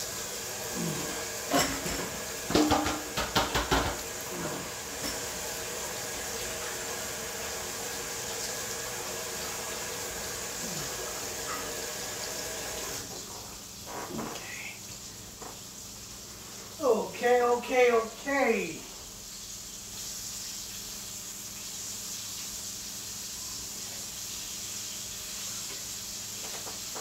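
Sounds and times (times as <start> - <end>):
tap water running: 0.0 - 27.0.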